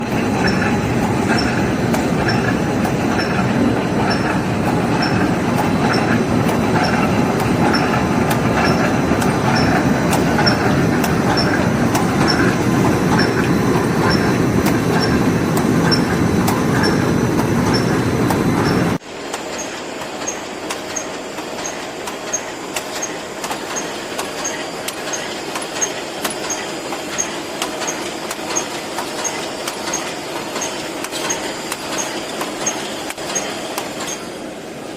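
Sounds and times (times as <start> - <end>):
high mechanical ticks: 0.0 - 34.3
welding machine clatter: 0.0 - 34.3.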